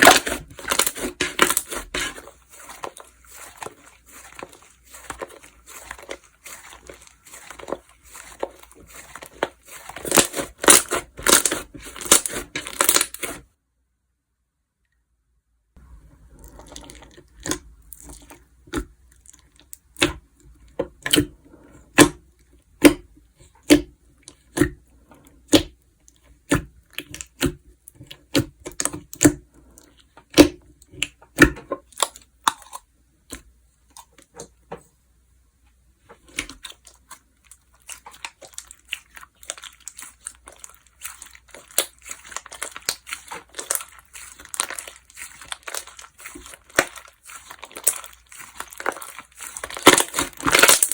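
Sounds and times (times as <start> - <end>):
slime crackling and crinkling: 0.0 - 13.5, 15.9 - 22.2, 22.8 - 34.2, 36.0 - 50.9.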